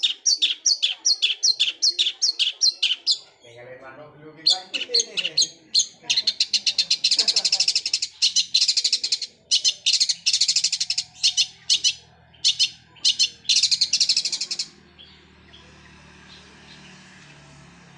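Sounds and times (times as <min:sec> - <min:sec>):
bird singing rattling trills: 0:00.0 - 0:03.7, 0:04.4 - 0:17.4.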